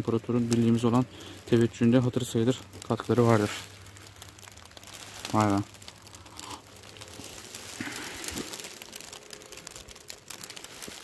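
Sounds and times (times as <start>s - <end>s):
falling rain hiss: 0.0s - 11.0s
plastic bag crinkling: 0.0s - 11.0s.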